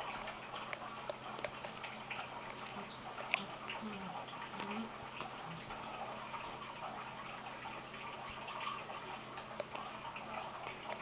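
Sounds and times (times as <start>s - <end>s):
soft ticks and rustles: 0.0s - 11.0s.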